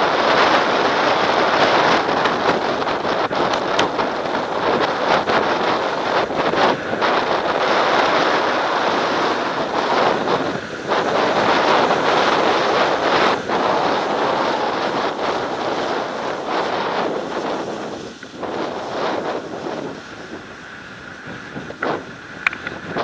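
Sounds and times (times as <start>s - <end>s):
wind rushing over microphone: 0.0s - 23.0s
snow scraping under skis: 0.3s - 22.0s.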